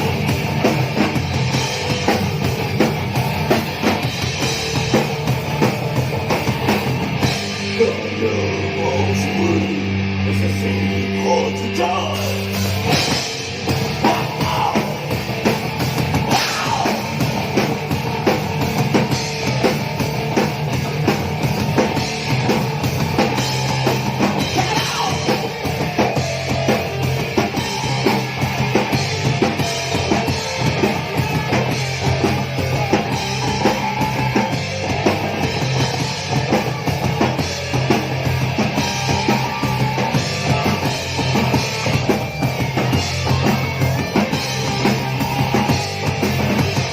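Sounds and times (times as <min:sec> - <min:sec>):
fast dense drumming: 0:00.0 - 0:46.9
heavy guitar and bass riffs: 0:00.0 - 0:46.9.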